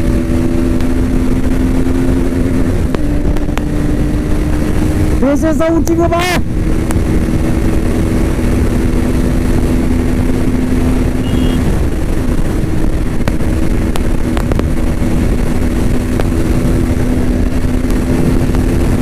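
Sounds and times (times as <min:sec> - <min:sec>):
motorcycle engine at high revs: 0:00.0 - 0:19.0
wind rumble on microphone: 0:00.0 - 0:19.0.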